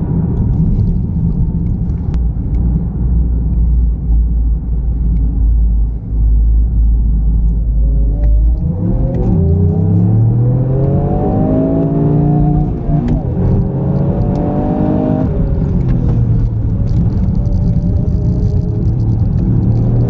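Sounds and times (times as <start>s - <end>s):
car engine accelerating: 0.0s - 20.0s
road noise: 0.0s - 20.0s.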